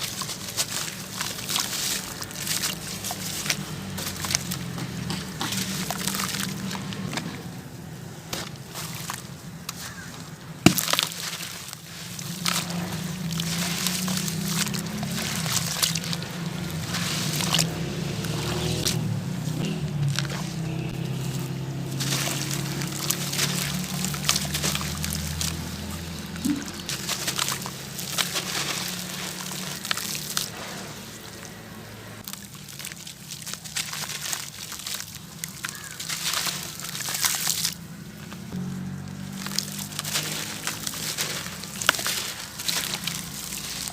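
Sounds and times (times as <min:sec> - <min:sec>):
crumbling crackling in water: 0:00.0 - 0:43.9
wet sloshing: 0:00.0 - 0:43.9.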